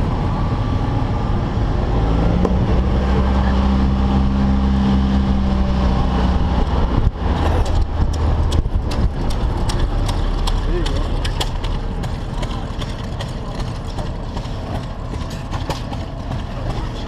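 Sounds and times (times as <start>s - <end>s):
engine droning hum: 0.0s - 17.0s.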